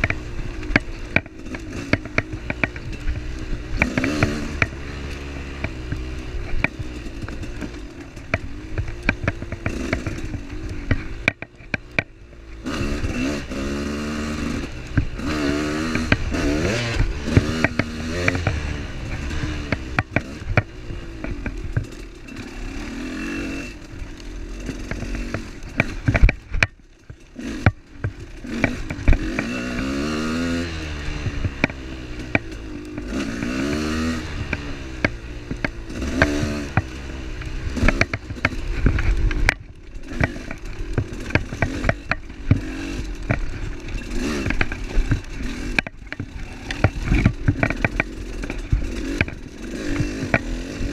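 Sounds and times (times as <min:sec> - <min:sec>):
knocks and clatter: 0:00.0 - 0:23.0, 0:23.6 - 0:50.9
motorcycle engine revving: 0:00.0 - 0:50.9.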